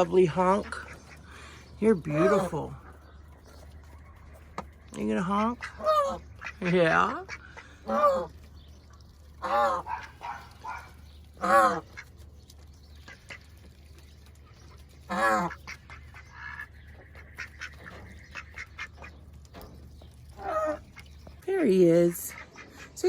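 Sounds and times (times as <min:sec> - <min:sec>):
farm bird honking: 0:00.0 - 0:13.8, 0:14.6 - 0:23.0
soft bird calls: 0:00.0 - 0:23.0.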